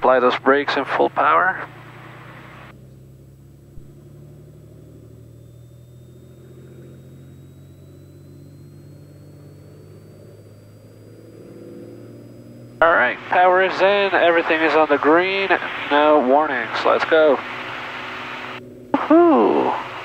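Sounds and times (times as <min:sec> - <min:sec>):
aircraft piston engine at full power: 0:00.0 - 0:03.0, 0:03.7 - 0:20.0
faint high whine: 0:00.0 - 0:20.0.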